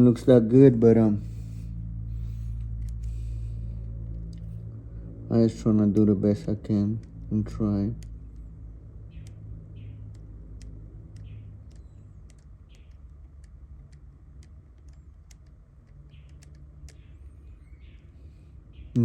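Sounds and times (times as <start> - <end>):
low steady hum: 0.0 - 19.0
small parts clicking: 1.2 - 5.0, 6.4 - 18.6.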